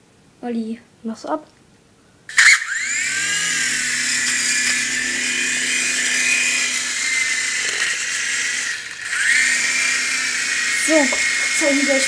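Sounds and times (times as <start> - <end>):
toy helicopter motor whine: 2.3 - 12.0.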